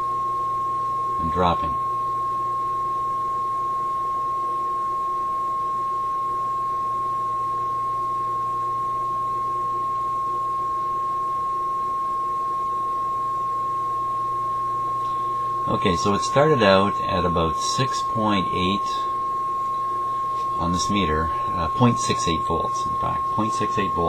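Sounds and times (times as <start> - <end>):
faint low hum: 0.0 - 24.0
steady test tone from radio: 0.0 - 24.0.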